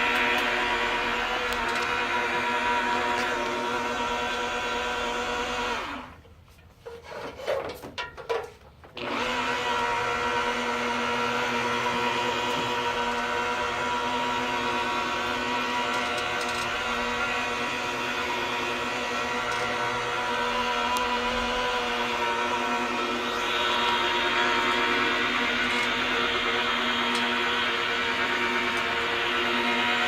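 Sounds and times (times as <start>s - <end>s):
power tool motor whining: 0.0s - 6.3s, 9.0s - 30.0s.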